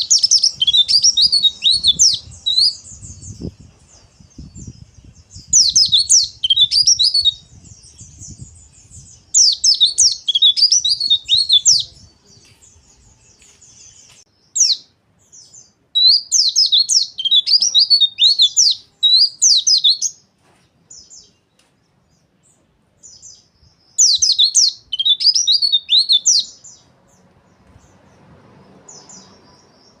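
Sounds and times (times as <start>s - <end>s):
bird twittering song: 0.0s - 30.0s.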